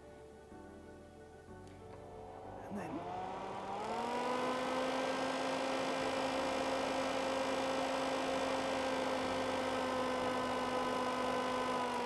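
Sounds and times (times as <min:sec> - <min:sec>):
fume extractor fan humming: 0:02.1 - 0:12.0.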